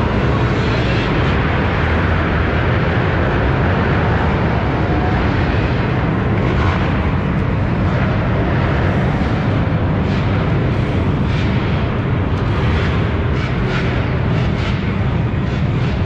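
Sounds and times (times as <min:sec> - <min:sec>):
tire machine running: 0:00.0 - 0:16.0.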